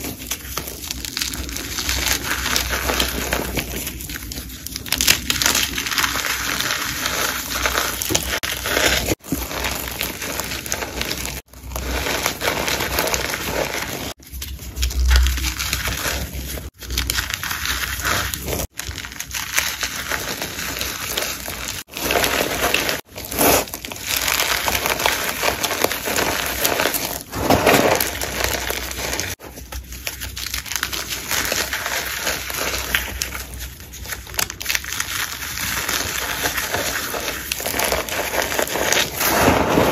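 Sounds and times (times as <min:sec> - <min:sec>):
chalk crunching in hands: 0:00.0 - 0:39.9.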